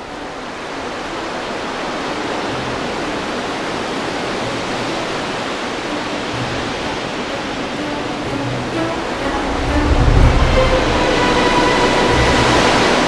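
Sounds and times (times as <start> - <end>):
faint music: 0.0 - 13.0
steady rushing noise: 0.0 - 13.0.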